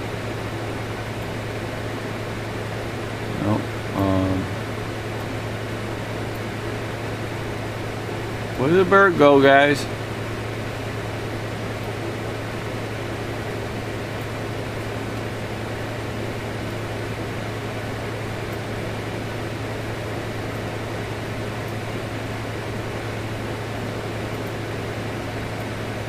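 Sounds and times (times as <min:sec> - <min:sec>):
fan humming with hiss: 0:00.0 - 0:26.0.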